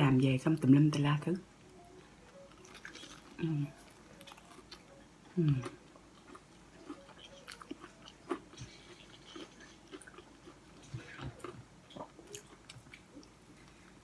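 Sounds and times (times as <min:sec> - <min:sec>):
person chewing crunchy food: 0:01.8 - 0:14.0.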